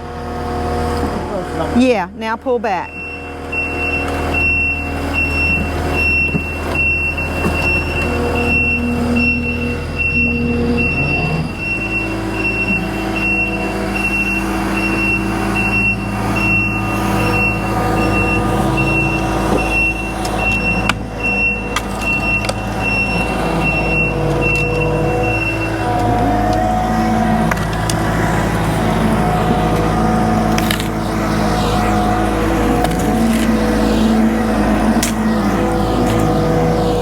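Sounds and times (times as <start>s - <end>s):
diesel engine running: 0.0s - 37.0s
reversing alarm beeping: 2.7s - 37.0s.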